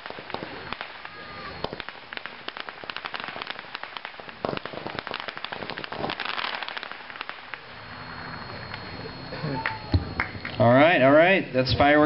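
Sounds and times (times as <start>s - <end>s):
fireworks cracking and popping: 0.0s - 10.7s
heavy firework bursts: 0.0s - 12.0s.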